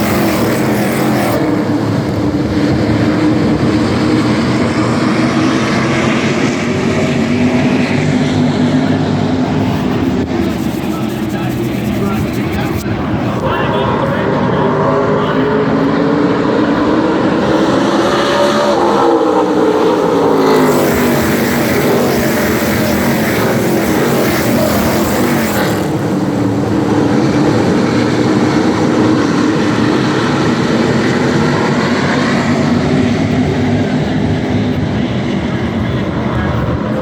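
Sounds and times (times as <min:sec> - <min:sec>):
loud rush of passing vehicles: 0:00.0 - 0:37.0
racing truck engines passing: 0:00.0 - 0:37.0.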